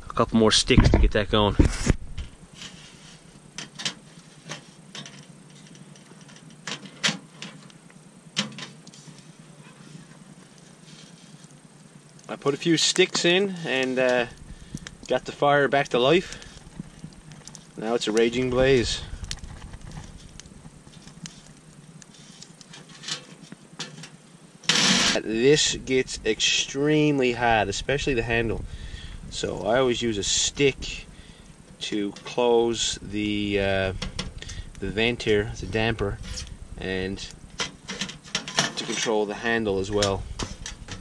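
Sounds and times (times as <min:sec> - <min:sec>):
fire hissing: 0:00.0 - 0:41.0
wood fire crackling: 0:00.0 - 0:41.0.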